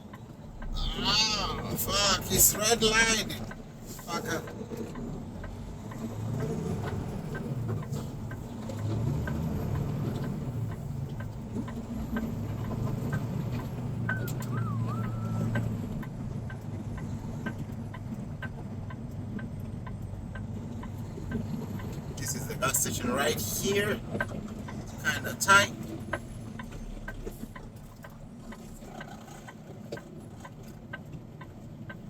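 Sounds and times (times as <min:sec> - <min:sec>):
diesel truck engine running: 0:00.0 - 0:32.0
light ticking: 0:00.1 - 0:32.0.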